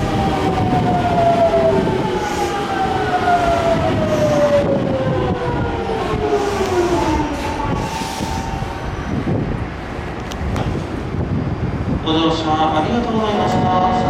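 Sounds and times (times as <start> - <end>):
train cars rumbling on rails: 0.0 - 14.0.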